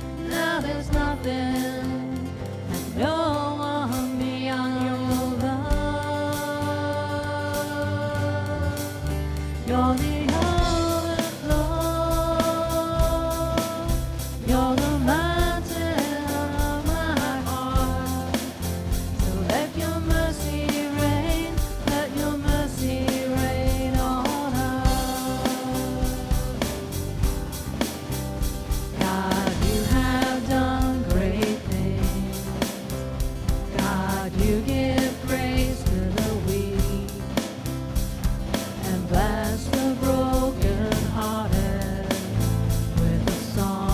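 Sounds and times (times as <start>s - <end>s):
band playing worship song: 0.0s - 43.9s.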